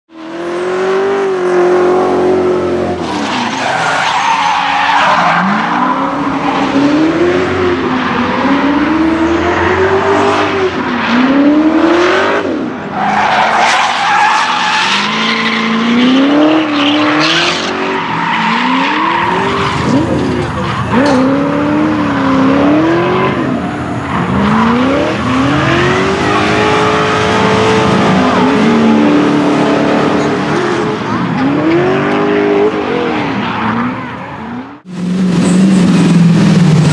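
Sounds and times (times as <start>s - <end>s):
car engine revving: 0.1s - 36.9s.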